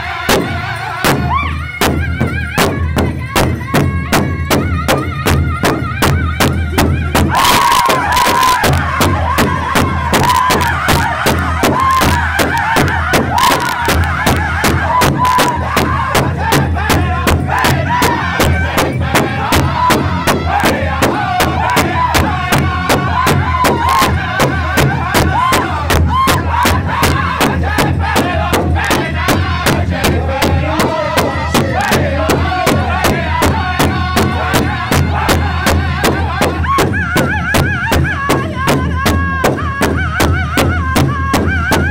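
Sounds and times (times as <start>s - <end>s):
men singing in unison: 0.0s - 5.8s, 6.7s - 41.9s
large hide drum beating: 0.0s - 41.9s.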